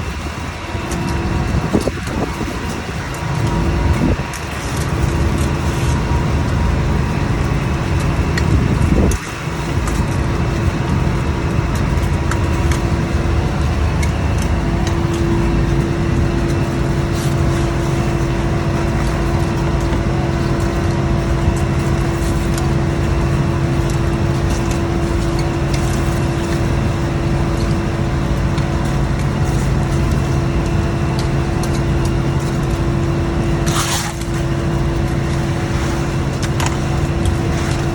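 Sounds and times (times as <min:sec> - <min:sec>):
boat engine droning: 0:00.0 - 0:37.9.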